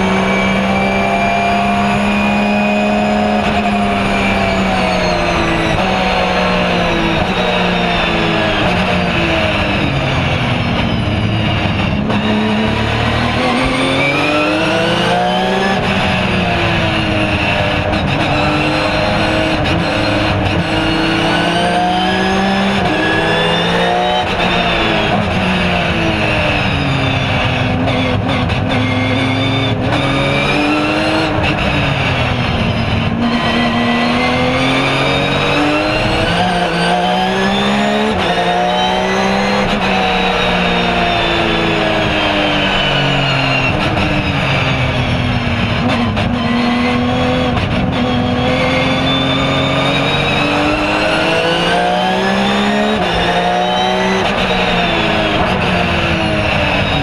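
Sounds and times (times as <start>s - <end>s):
racing engine revving: 0.0s - 57.0s.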